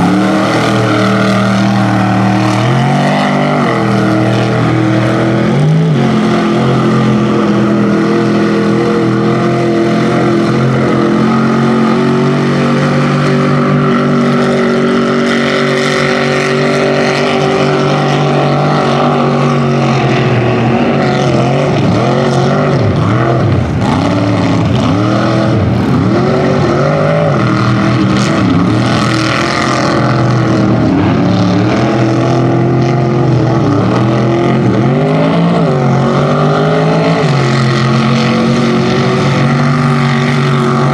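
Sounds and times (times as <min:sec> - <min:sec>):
truck engine revving under load: 0:00.0 - 0:40.9.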